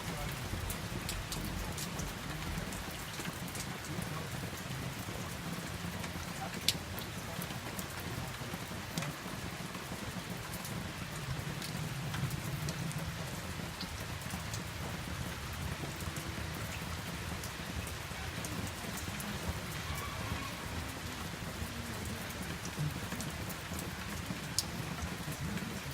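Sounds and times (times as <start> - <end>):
steady rain falling: 0.0 - 25.9
sharp raindrop ticks: 0.1 - 25.9.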